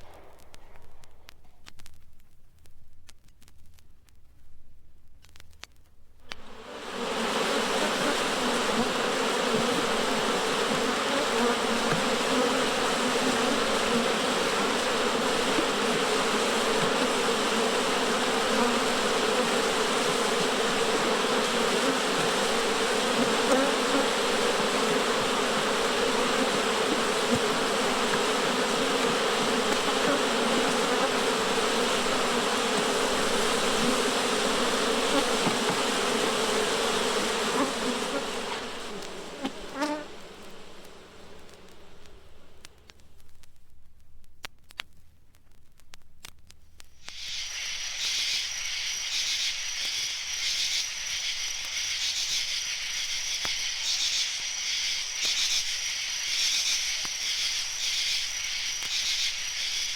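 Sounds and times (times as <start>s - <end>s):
swarm of insects buzzing: 6.3s - 42.9s, 47.0s - 59.9s.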